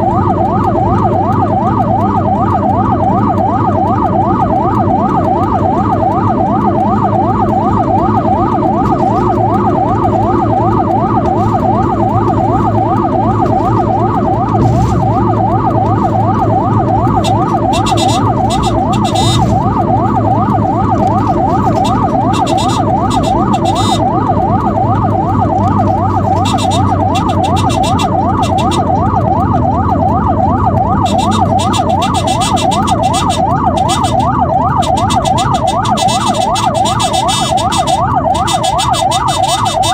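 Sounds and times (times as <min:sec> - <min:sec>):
ambulance siren yelping: 0:00.0 - 0:39.9
vehicle engine and road noise: 0:00.0 - 0:39.9.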